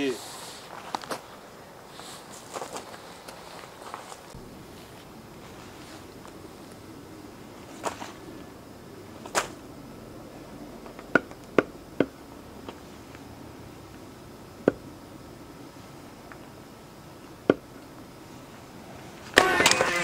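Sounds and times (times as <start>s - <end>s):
low steady background: 0.0s - 20.0s.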